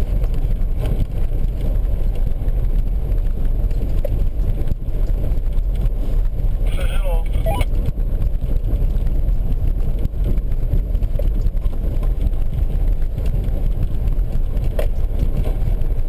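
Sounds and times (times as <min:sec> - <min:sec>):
car driving on snowy road: 0:00.0 - 0:16.0.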